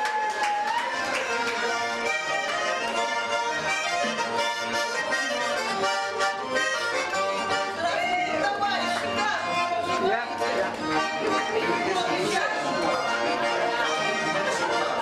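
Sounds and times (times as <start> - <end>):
button accordion playing: 0.6 - 15.0.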